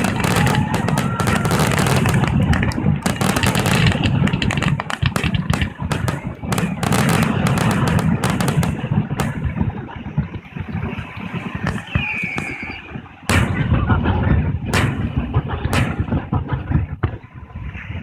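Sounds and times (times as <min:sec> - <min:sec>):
loud firework bursts: 0:00.0 - 0:17.0
continuous low rumble: 0:00.0 - 0:18.0
fireworks bangs and crackles: 0:00.0 - 0:18.0.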